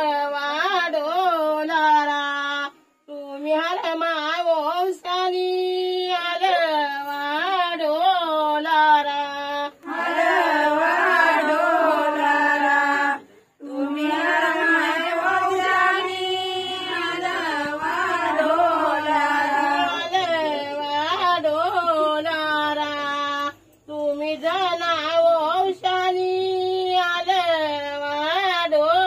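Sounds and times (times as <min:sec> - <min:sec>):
women singing: 0:00.0 - 0:29.0.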